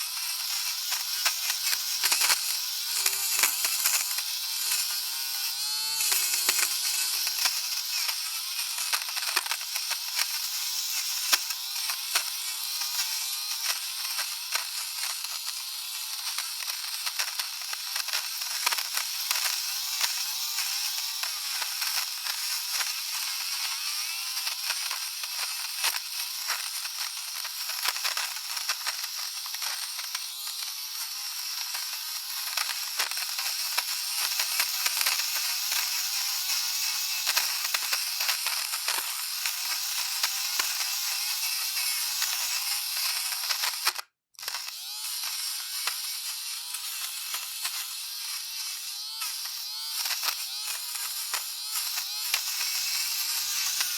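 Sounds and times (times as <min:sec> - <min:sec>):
fabric shaver whirring: 0:00.0 - 0:53.9
small crackling clicks: 0:00.2 - 0:05.0, 0:06.0 - 0:46.0.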